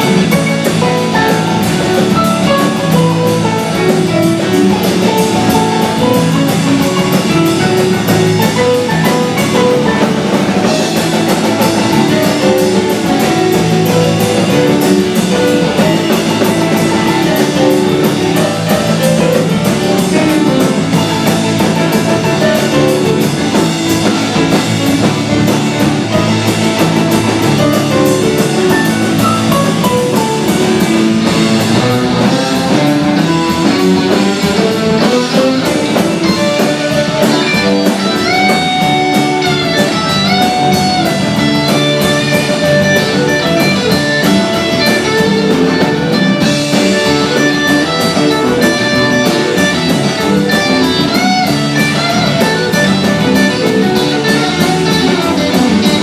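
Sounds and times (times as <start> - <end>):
drum kit: 0.0 - 56.0
electric guitar lead: 0.0 - 56.0.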